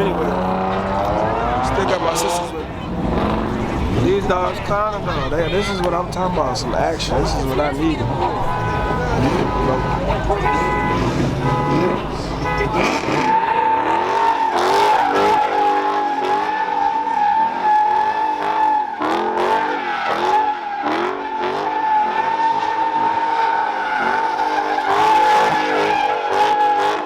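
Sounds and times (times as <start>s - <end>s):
car engine revving: 0.0s - 27.0s
tires squealing: 0.0s - 27.0s.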